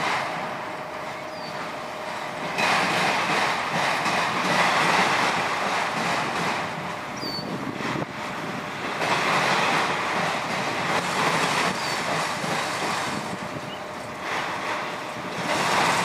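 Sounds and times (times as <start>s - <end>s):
train wheels rushing on rails: 0.0s - 16.0s.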